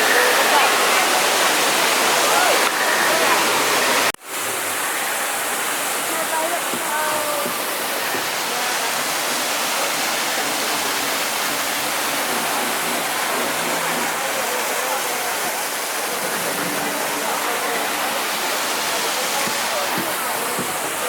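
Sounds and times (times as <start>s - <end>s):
murmur of crowd voices: 0.0s - 21.0s
waterfall rushing: 0.0s - 21.0s.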